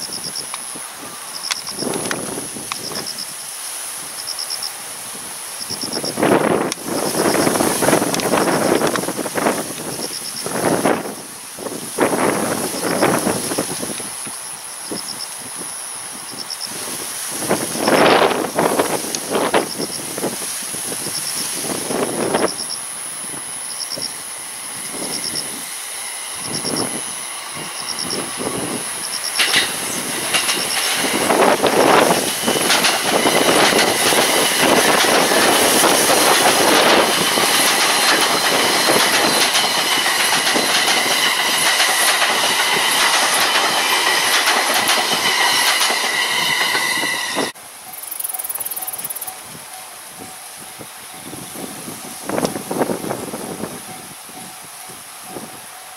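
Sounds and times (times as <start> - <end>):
wind buffeting microphone: 0.0 - 3.3, 5.0 - 14.3, 14.9 - 47.6, 49.0 - 55.7
electric train passing at speed: 0.0 - 55.9
train high whine: 0.0 - 55.9.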